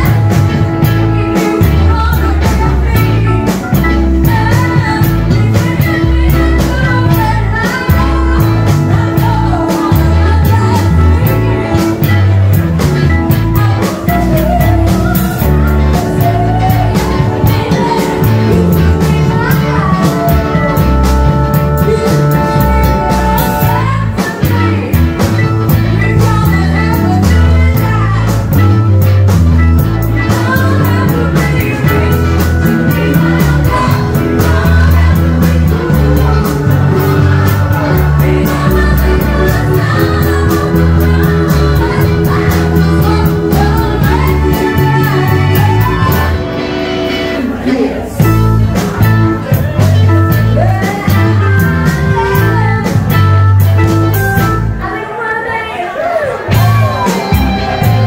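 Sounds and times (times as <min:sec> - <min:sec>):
lead singer: 0:00.0 - 0:58.0
live funk-rock band: 0:00.0 - 0:58.0.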